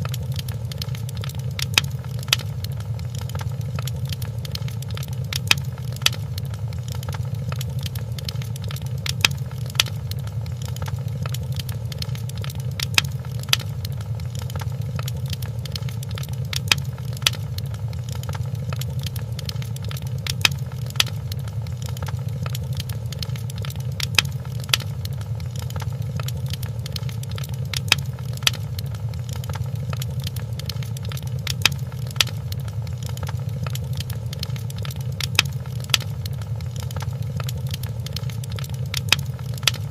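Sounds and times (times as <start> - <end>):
fireplace logs crackling and popping: 0.0 - 39.9.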